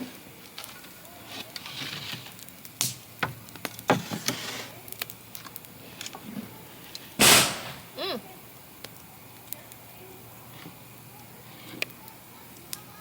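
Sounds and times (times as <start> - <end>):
campfire popping: 0.0 - 13.0.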